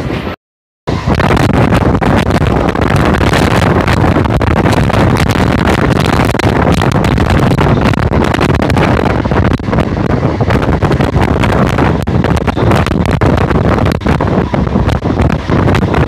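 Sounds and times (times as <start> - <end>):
train rumbling: 0.0 - 16.0
wind buffeting microphone: 0.0 - 16.0.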